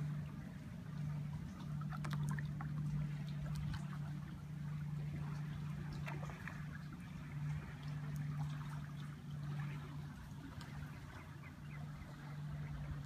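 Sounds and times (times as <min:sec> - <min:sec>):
shallow water trickling and lapping: 0:00.0 - 0:13.0
steady low drone: 0:00.0 - 0:13.0.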